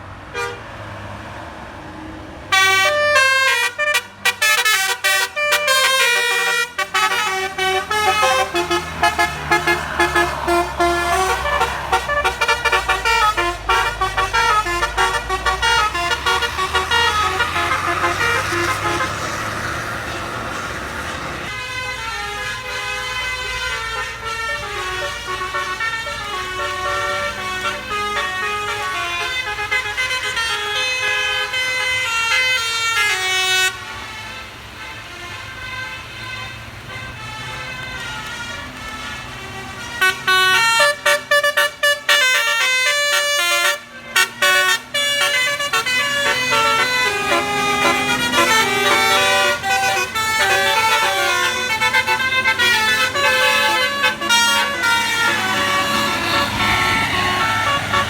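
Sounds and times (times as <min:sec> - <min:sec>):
low rumble of bus: 0:00.0 - 0:58.0
multi-trumpet air horn melody: 0:00.3 - 0:00.6, 0:02.5 - 0:58.0.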